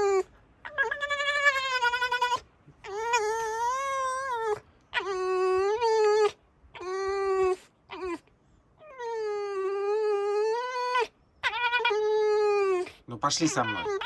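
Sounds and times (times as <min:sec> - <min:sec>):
fox whining squeals: 0:00.0 - 0:14.0.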